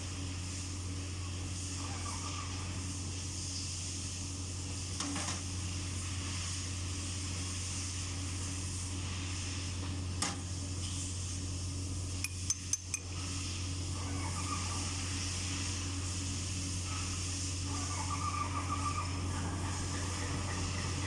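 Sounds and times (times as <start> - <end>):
hiss: 0.0 - 11.6, 14.5 - 21.0
low mechanical hum: 0.0 - 21.0.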